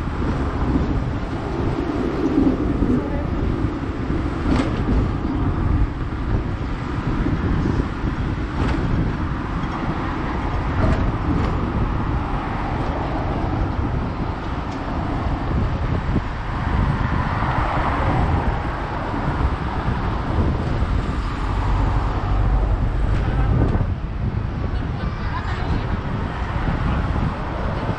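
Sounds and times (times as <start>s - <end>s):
street traffic: 0.0s - 27.9s
tram rumbling on tracks: 0.0s - 27.9s.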